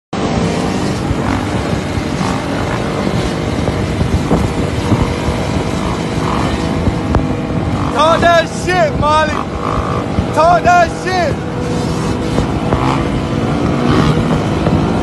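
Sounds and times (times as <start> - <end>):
dirt bike engines: 0.2 - 15.0.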